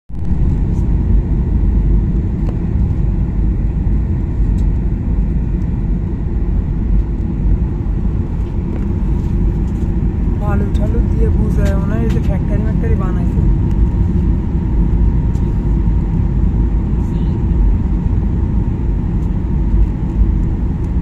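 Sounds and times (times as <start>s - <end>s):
jet airliner cabin rumble: 0.1s - 21.0s.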